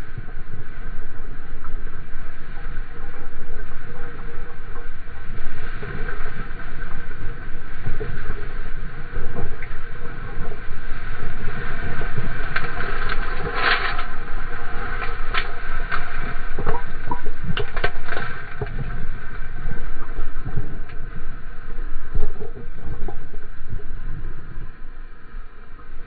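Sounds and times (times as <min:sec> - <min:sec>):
low rumble: 0:00.0 - 0:26.0
water rushing and splashing: 0:00.0 - 0:26.0.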